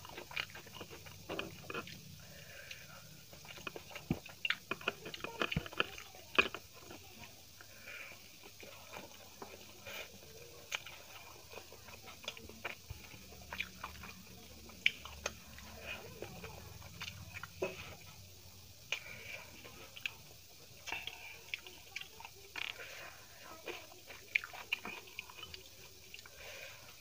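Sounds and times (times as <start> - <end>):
chewing with wet mouth clicks: 0.0 - 7.7, 8.4 - 18.0, 18.8 - 20.2, 20.8 - 22.8, 23.6 - 26.4.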